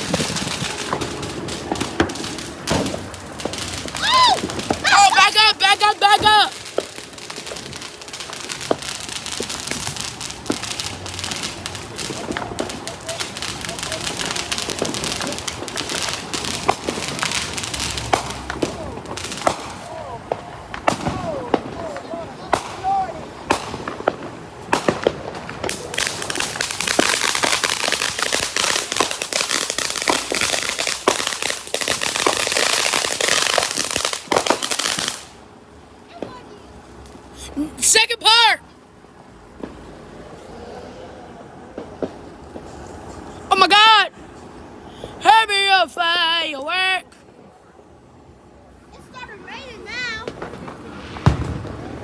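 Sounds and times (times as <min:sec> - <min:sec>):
firework fizzing: 0:00.0 - 0:47.2, 0:48.7 - 0:52.0
ground firework crackling: 0:00.0 - 0:52.0.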